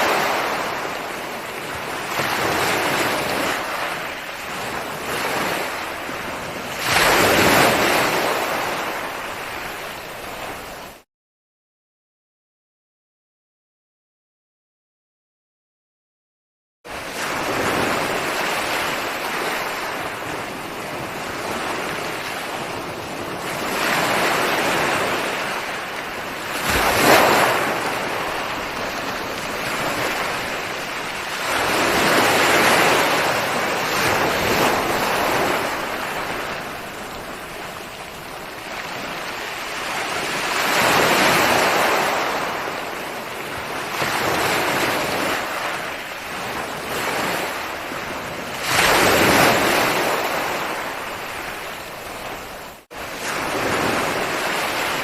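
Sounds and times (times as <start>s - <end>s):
waves breaking on shore: 0.0s - 11.0s, 16.9s - 55.0s.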